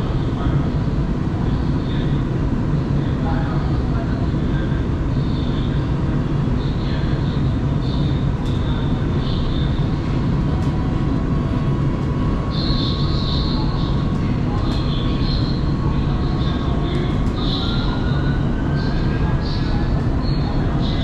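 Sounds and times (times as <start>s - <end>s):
high whine: 0.0s - 21.0s
train low rumble: 0.0s - 21.0s.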